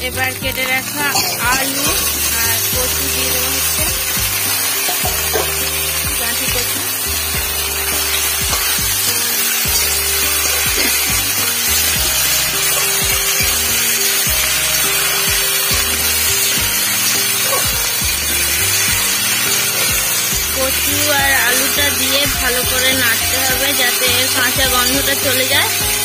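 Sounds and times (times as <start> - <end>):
background music with bass line: 0.0 - 26.0
metal spatula scraping a pan: 0.9 - 26.0.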